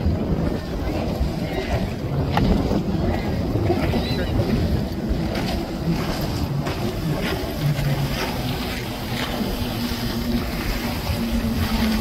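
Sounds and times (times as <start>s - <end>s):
jet ski engine drone: 0.0s - 12.0s
wind: 0.0s - 12.0s.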